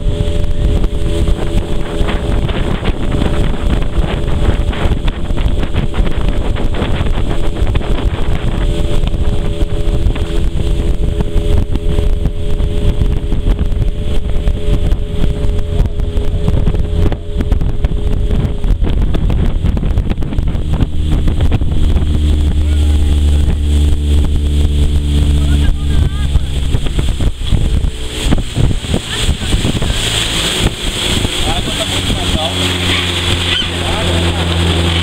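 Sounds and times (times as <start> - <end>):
outboard motor running: 0.0 - 35.0
water rushing past hull: 0.0 - 35.0
wind buffeting microphone: 0.0 - 35.0.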